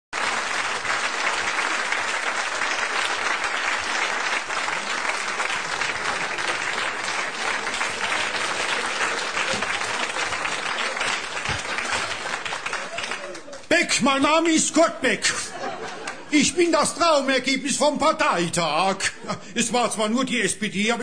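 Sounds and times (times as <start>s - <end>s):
audience applauding: 0.2s - 17.3s.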